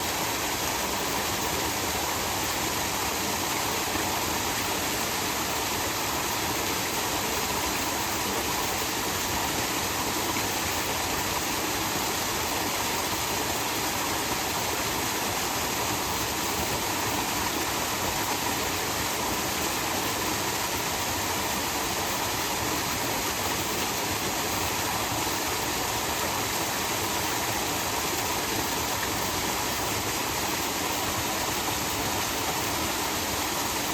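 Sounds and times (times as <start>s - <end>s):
small waterfall rushing: 0.0s - 33.9s.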